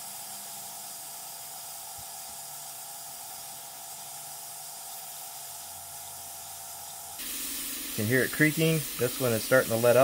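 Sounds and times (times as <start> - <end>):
hot air nozzle hissing: 0.0 - 10.0.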